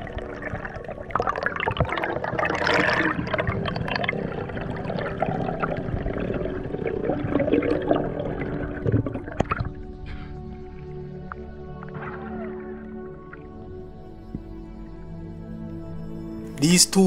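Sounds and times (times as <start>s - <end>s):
underwater gurgling with crackles: 0.0s - 14.6s.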